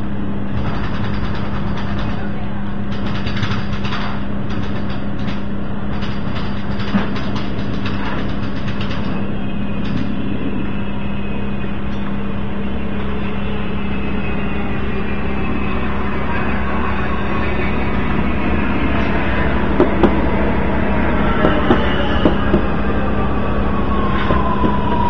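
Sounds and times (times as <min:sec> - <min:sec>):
constant low hum: 0:00.0 - 0:25.0
train approaching rumble: 0:00.0 - 0:25.0.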